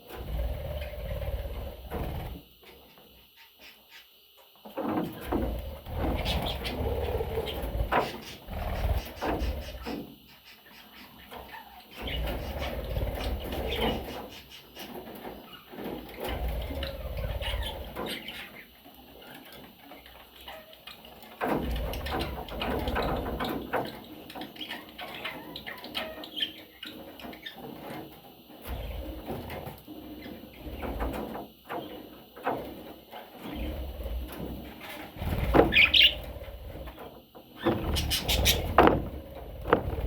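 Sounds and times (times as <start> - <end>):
budgerigars rustling and scratching: 4.7 - 40.0.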